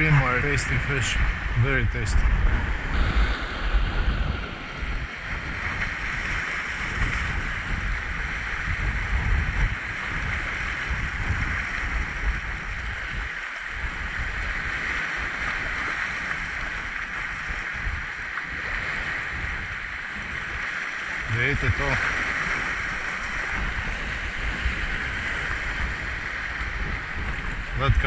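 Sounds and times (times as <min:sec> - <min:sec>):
sea waves on rocky shore: 0:00.0 - 0:28.0
wind rumbling on microphone: 0:00.0 - 0:28.0.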